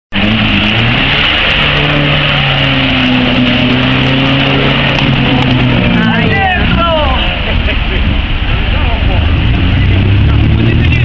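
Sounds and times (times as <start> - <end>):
engine at high revs: 0.1 - 11.0
loud rushing of water and mud: 0.1 - 11.0.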